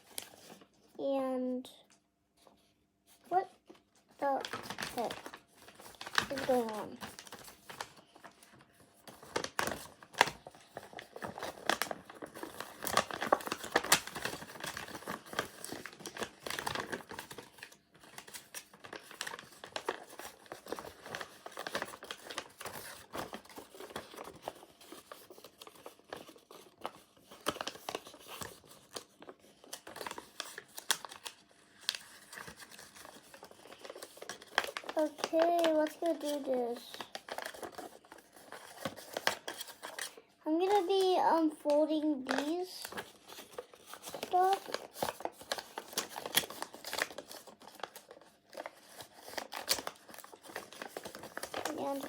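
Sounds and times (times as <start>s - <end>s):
paper rustling and crinkling: 0.0s - 0.9s, 2.4s - 52.0s.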